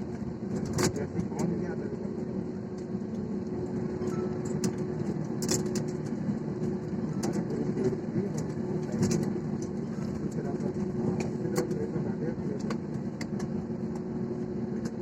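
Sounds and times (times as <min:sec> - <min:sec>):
airliner cabin engine hum: 0:00.0 - 0:15.0.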